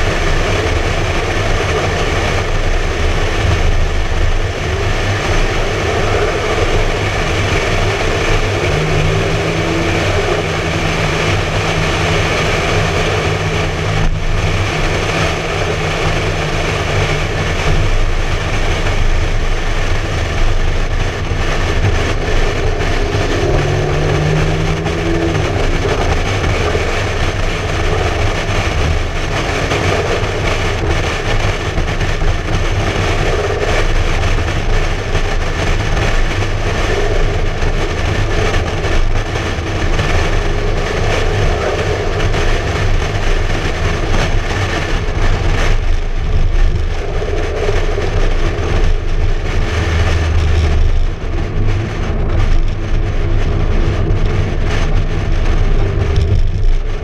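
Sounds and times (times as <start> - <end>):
car engine running: 0.0 - 57.0
road noise: 0.0 - 57.0
wind buffeting: 0.0 - 57.0.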